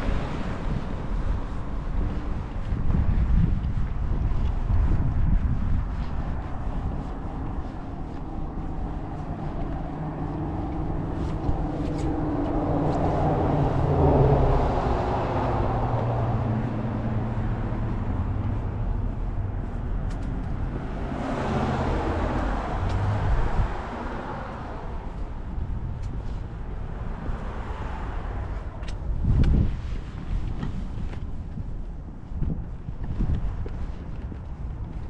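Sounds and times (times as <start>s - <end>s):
cars passing on a road: 0.0s - 35.0s.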